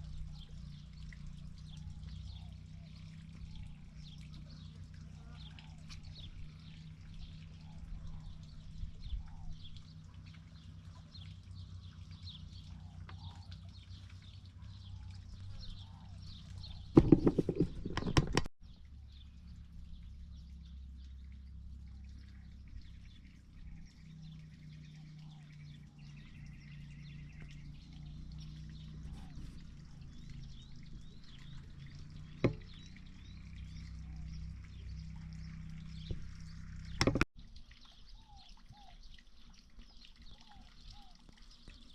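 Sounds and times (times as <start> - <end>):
steady low hum: 0.0 - 37.3
small birds chirping: 0.0 - 41.9.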